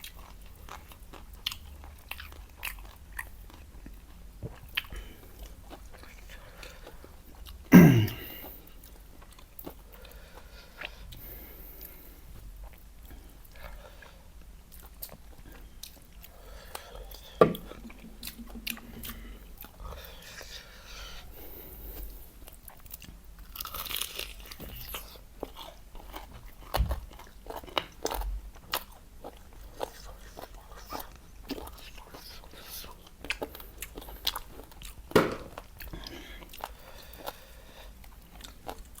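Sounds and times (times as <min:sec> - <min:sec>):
crunching fried chicken: 0:00.0 - 0:21.2, 0:21.8 - 0:39.0
wet chewing: 0:00.0 - 0:39.0.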